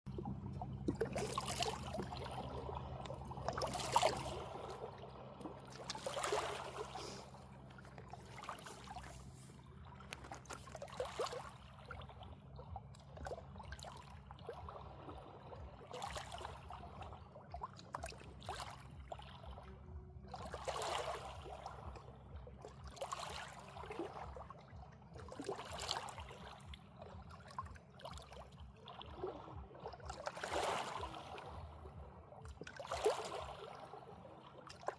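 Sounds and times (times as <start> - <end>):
low steady hum: 0.1 - 34.9
water lapping and splashing: 0.1 - 34.9.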